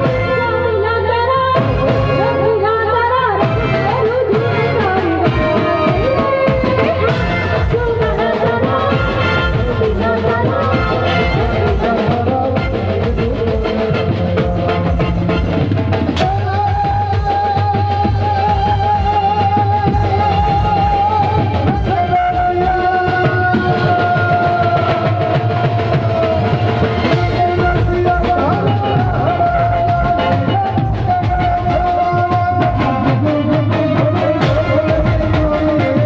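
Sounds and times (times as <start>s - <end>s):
drum kit: 0.0s - 36.0s
keyboard: 0.0s - 36.0s
dhol drum beat: 3.4s - 36.0s.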